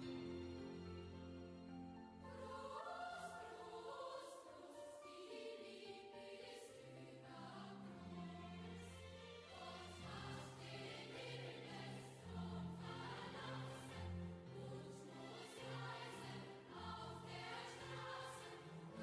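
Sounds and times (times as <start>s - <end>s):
choir singing held chords: 2.0s - 19.0s.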